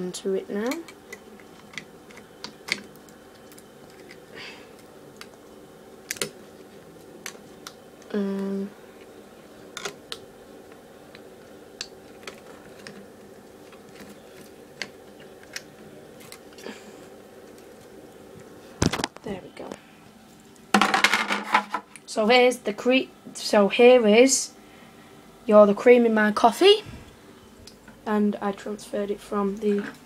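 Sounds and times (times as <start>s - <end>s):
tape recorder motor and fan hum: 0.0s - 30.0s.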